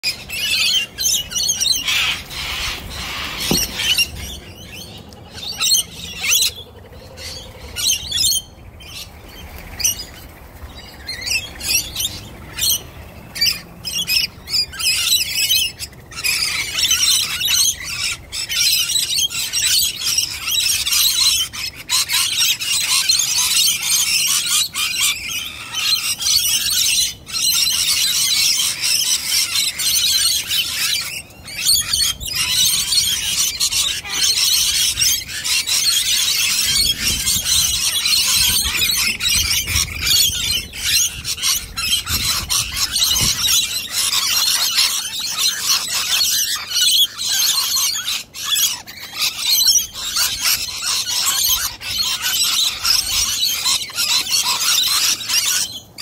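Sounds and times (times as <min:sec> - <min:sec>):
lorikeets screeching and chattering: 0:00.0 - 0:56.0.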